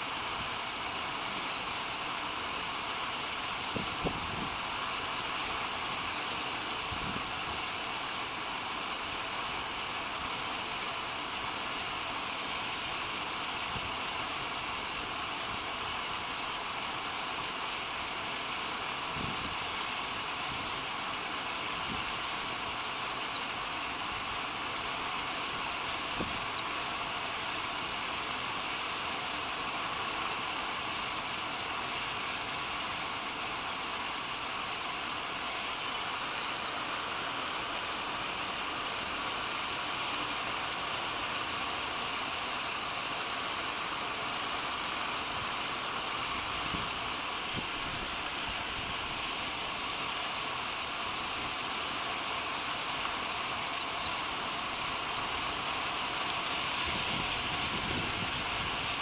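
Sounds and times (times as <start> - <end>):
outdoor background hiss: 0.0 - 59.0.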